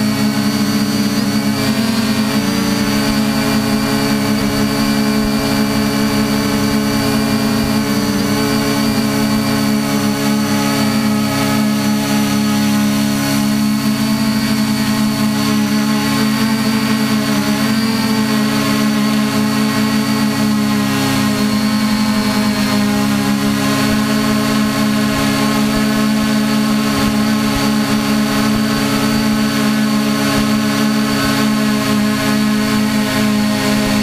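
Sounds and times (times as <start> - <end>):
drone motors humming: 0.0 - 34.0.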